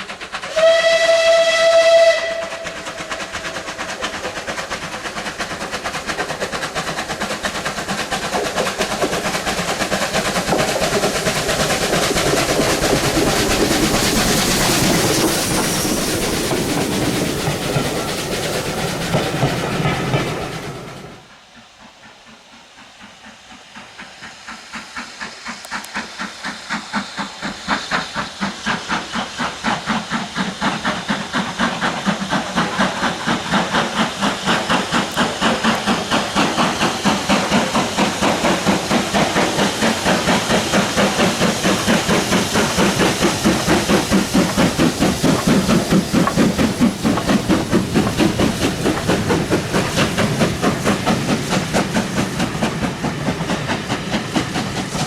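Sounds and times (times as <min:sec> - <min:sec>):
steam locomotive exhaust beats: 0:00.0 - 0:55.0
steam locomotive hiss: 0:00.0 - 0:55.0
rail clatter: 0:02.3 - 0:21.2, 0:29.0 - 0:55.0.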